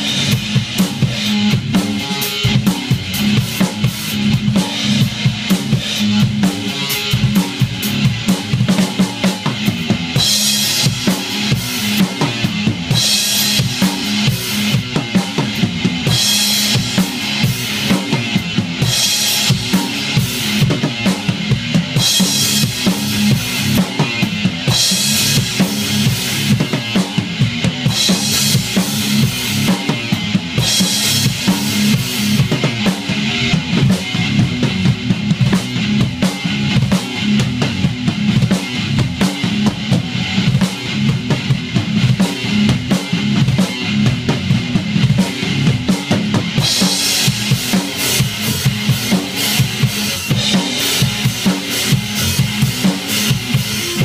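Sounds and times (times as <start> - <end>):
drum kit played fast: 0.0 - 54.0.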